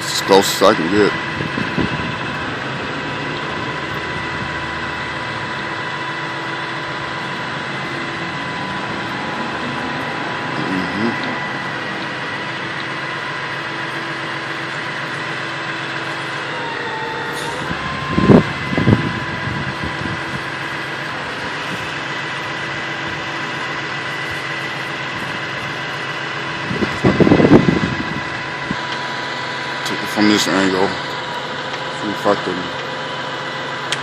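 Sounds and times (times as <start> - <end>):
high whine: 0.0 - 34.0
truck engine running: 0.0 - 34.0.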